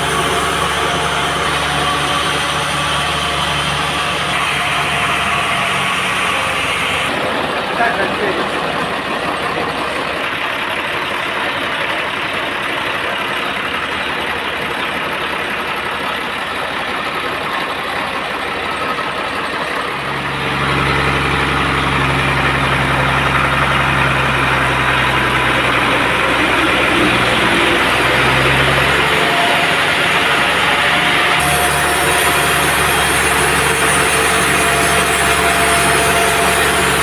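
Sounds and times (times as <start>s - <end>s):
deep engine hum: 0.0s - 37.0s
sawmill machinery running: 0.0s - 37.0s.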